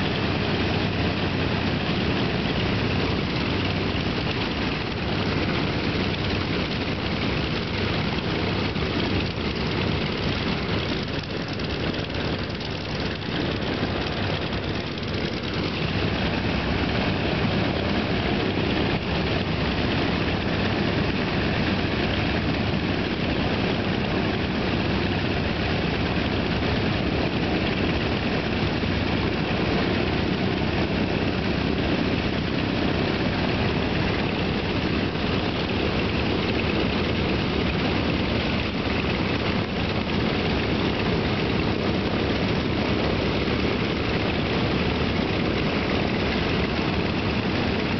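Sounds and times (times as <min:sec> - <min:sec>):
propeller aircraft engines droning: 0:00.0 - 0:47.9.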